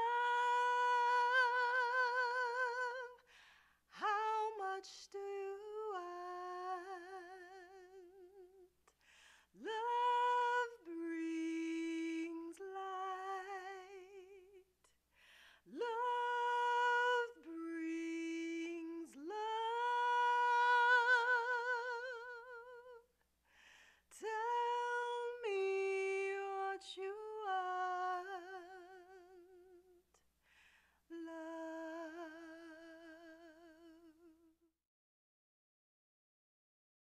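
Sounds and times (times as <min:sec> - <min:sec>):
woman singing a cappella: 0:00.0 - 0:15.0, 0:15.6 - 0:23.1, 0:24.1 - 0:30.2, 0:31.1 - 0:34.7.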